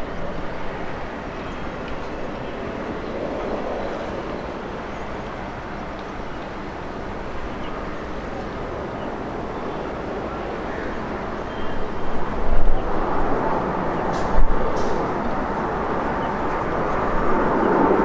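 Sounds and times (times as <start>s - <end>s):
distant jet engine rushing: 0.0s - 18.0s.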